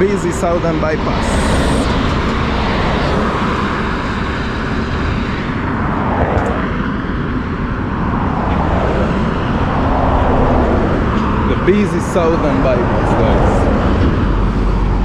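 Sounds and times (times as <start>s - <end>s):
heavy highway traffic: 0.0s - 15.0s
vehicle passing close: 1.0s - 15.0s.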